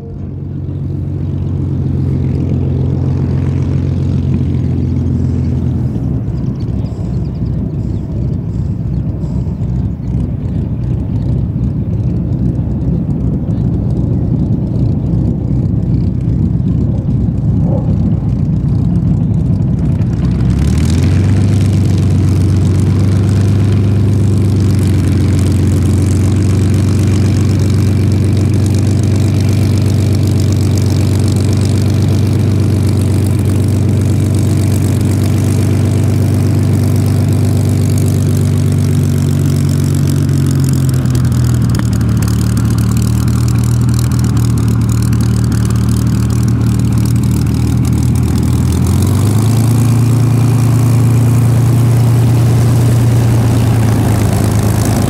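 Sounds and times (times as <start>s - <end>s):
aircraft engine droning: 0.0s - 55.0s.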